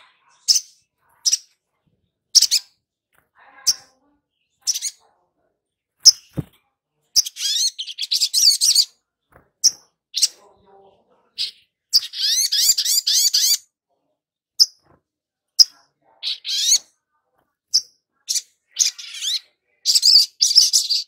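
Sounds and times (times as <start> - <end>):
bird chirping and twittering: 0.0 - 13.7, 14.5 - 15.0, 15.6 - 17.0, 17.7 - 21.0.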